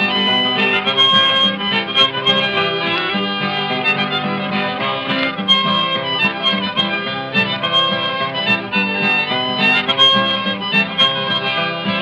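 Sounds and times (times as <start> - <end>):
acoustic guitar strumming: 0.0 - 12.0
harmonica melody: 0.0 - 12.0.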